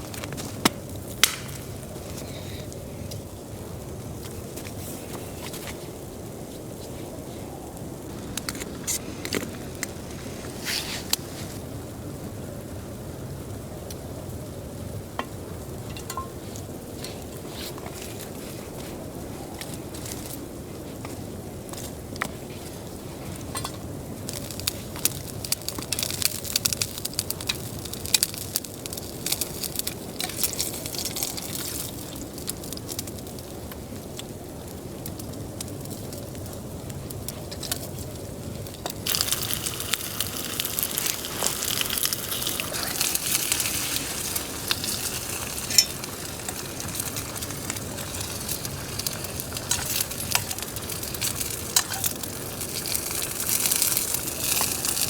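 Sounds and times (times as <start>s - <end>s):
fire crackling and popping: 0.0s - 55.0s
food sizzling over campfire: 0.0s - 55.0s.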